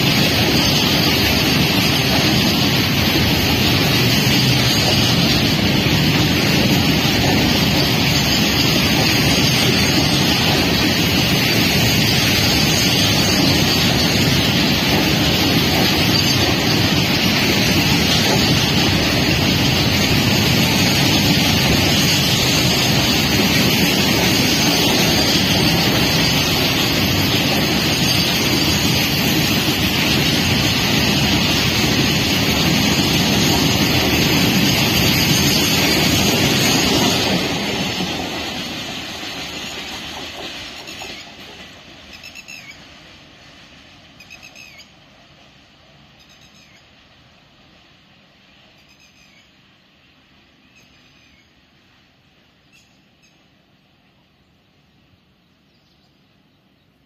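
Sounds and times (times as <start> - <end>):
steel wheels on rails: 0.0 - 49.6.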